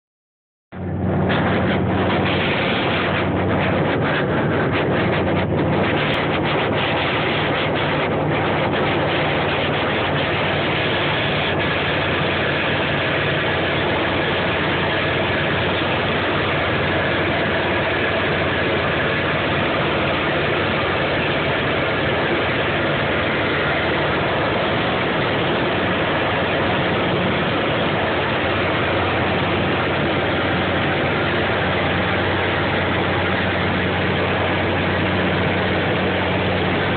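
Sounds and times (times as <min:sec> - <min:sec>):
aircraft engine and propeller hum: 0:00.7 - 0:36.9
rush of air: 0:00.7 - 0:36.9.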